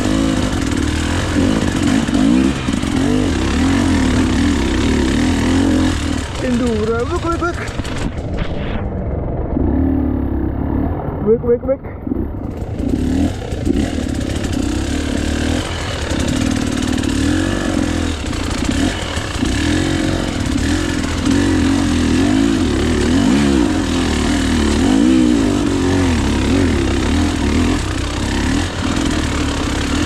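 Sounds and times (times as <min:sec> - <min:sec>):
two-stroke motorcycle engine revving: 0:00.0 - 0:08.5, 0:12.0 - 0:30.0.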